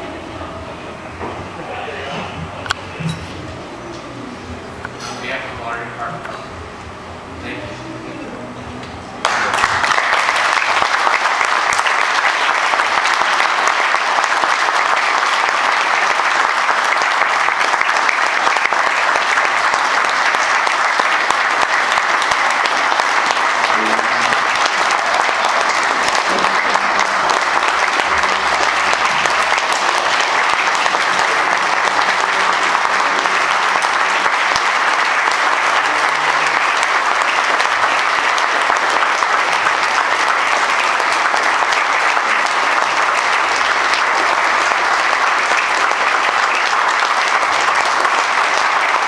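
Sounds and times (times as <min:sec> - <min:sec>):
people applauding: 0:09.2 - 0:49.0.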